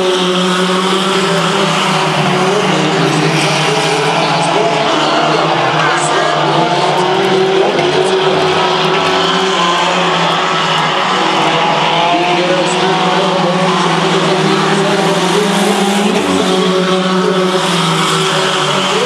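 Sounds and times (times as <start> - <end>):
race engines droning: 0.0 - 19.0.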